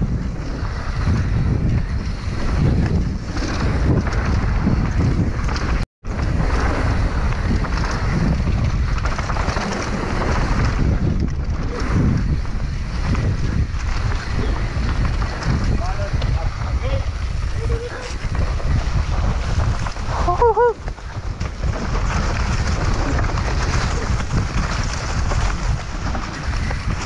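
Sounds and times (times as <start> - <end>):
mountain bike rattling: 0.0 - 27.0
wind rushing over microphone: 0.0 - 27.0.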